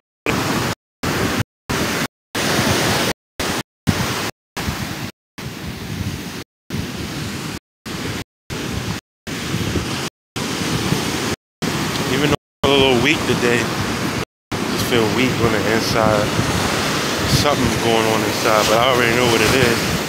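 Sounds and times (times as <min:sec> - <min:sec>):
ocean surf breaking: 0:00.3 - 0:20.0
wind on microphone: 0:00.3 - 0:20.0.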